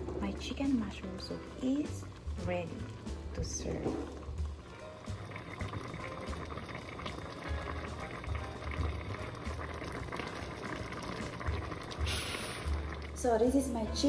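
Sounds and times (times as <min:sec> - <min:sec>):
soup bubbling in a pot: 0:00.0 - 0:14.0.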